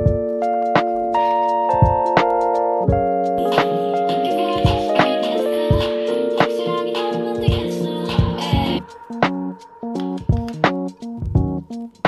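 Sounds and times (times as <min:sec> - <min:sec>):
keyboard chords: 0:00.0 - 0:12.0
soft beat: 0:00.0 - 0:12.0.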